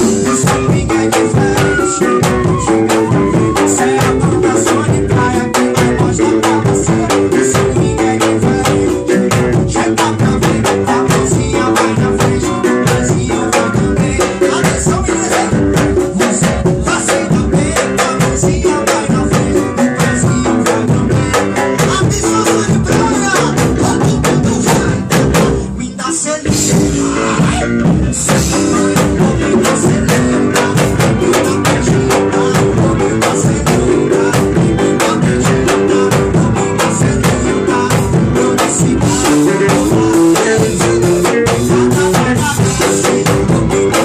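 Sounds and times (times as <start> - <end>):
drum beat: 0.0 - 44.0
guitar: 0.0 - 44.0.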